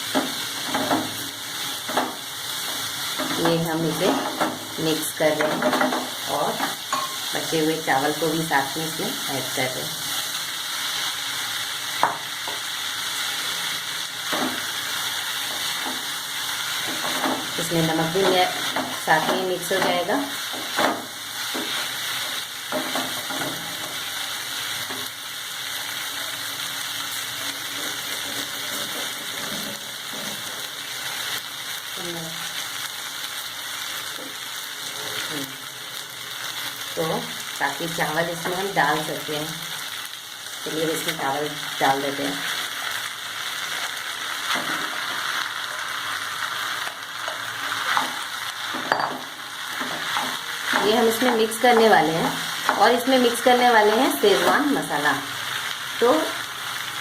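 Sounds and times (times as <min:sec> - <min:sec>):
stirring strokes in pan: 0:00.0 - 0:39.0, 0:39.6 - 0:57.0
food sizzling in hot oil: 0:00.0 - 0:57.0.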